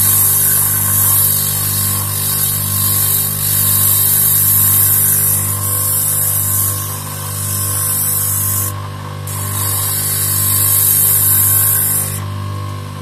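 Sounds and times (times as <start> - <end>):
sandpaper hissing on cork: 0.0 - 8.7, 9.3 - 12.2
power drill humming: 0.0 - 12.3.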